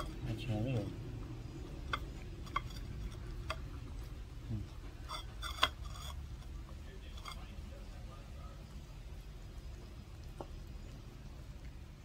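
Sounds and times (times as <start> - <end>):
puppy chewing: 0.0 - 12.0.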